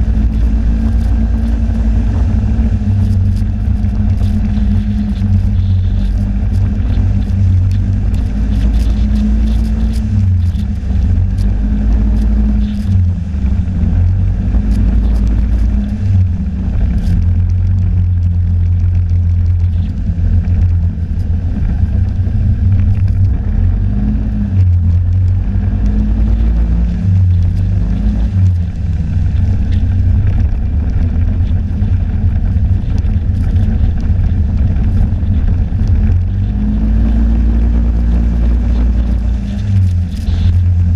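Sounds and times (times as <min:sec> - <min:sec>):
snowmobile engine droning: 0:00.0 - 0:40.9.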